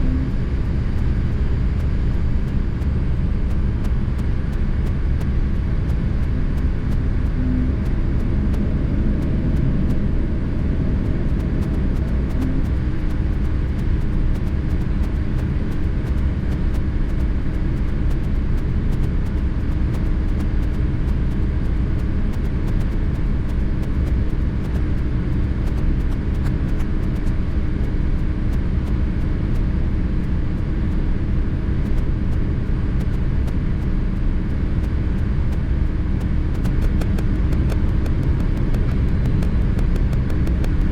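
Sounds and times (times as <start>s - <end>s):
airplane cabin rumble during landing: 0.0s - 40.9s.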